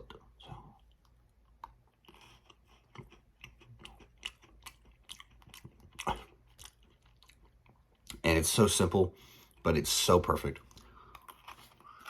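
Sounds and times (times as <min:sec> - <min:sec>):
crunching and chewing biscuit: 0:00.0 - 0:12.0.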